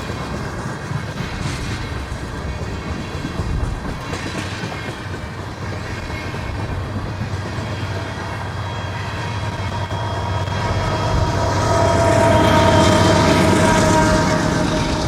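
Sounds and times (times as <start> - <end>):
freight train passing on rails: 0.0 - 15.0.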